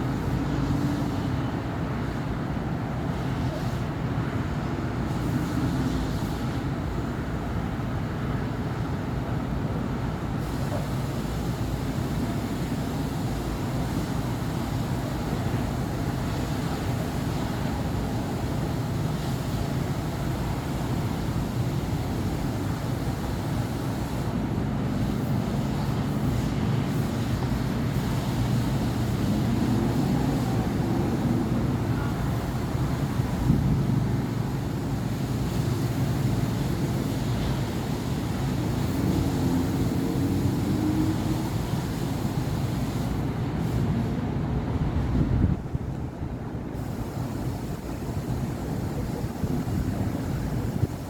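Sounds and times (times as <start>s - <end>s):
traffic rumble: 0.0s - 51.0s.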